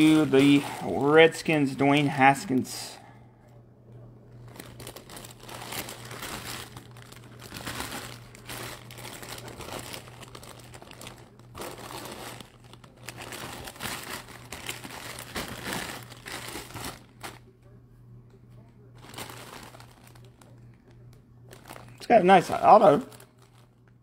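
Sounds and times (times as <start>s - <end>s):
plastic bag crinkling: 0.0s - 2.8s, 4.3s - 17.5s, 18.8s - 24.0s.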